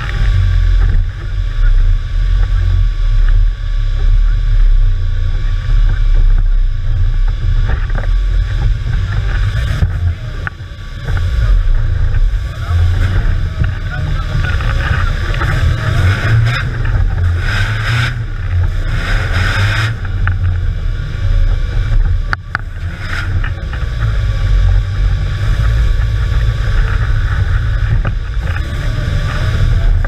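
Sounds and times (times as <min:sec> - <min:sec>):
rushing noise: 0:00.0 - 0:30.0
vehicle engine running: 0:00.0 - 0:30.0.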